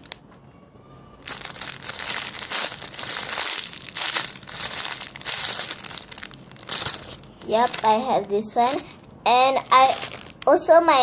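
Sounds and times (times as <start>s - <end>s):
squishy toy crinkling: 1.2s - 10.6s.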